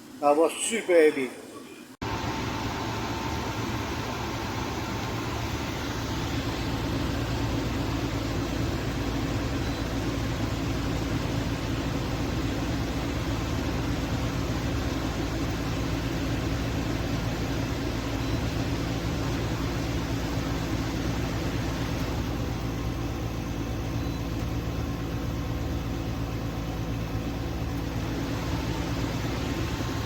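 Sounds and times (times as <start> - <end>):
air conditioner fan rush: 2.0 - 30.0
low compressor hum: 2.0 - 30.0.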